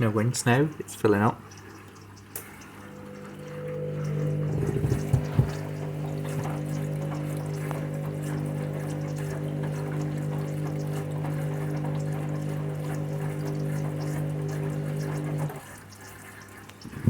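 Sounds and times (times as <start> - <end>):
washing machine hum: 0.0 - 17.0
water rushing into washing machine: 0.0 - 17.0.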